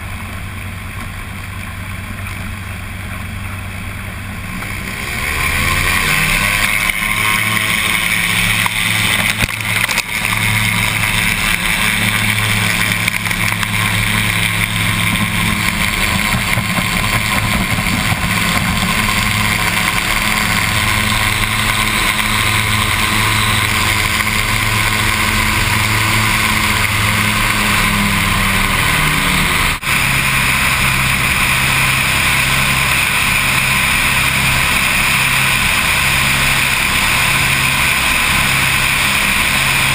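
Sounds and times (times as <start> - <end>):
twin aircraft engines running: 0.0 - 39.9
water rushing and spraying: 0.0 - 39.9.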